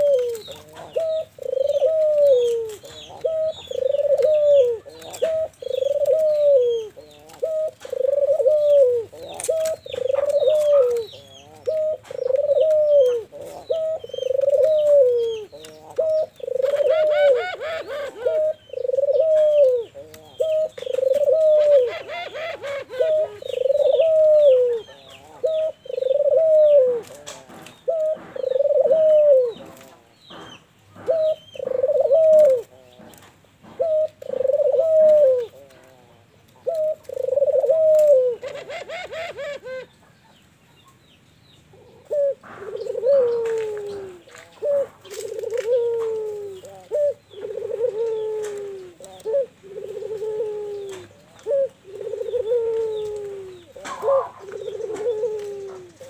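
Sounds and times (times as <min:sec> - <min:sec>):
dove cooing: 0:00.0 - 0:40.0, 0:41.7 - 0:56.0
small birds chirping: 0:00.0 - 0:56.0.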